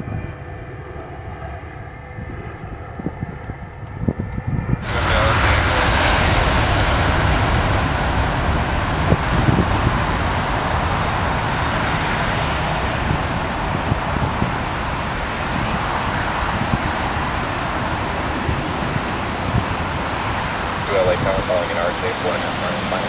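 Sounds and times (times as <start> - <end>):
jet engines rushing: 0.0 - 23.0.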